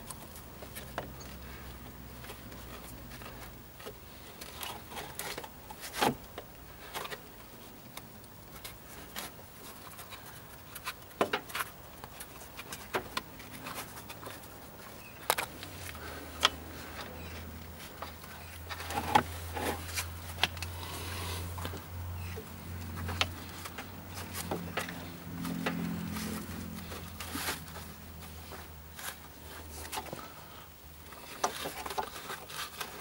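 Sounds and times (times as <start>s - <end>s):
belt fitting clicks and rustles: 0.0s - 30.3s.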